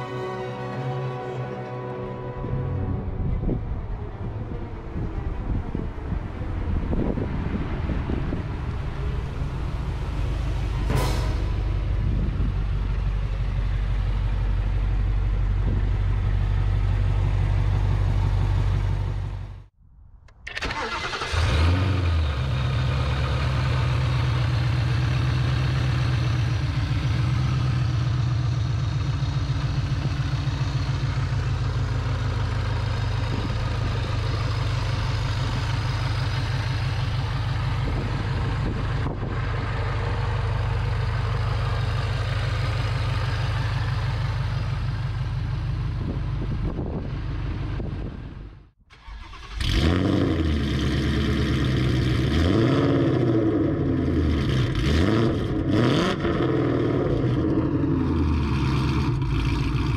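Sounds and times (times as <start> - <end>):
car engine starting and idling: 2.7 - 59.9.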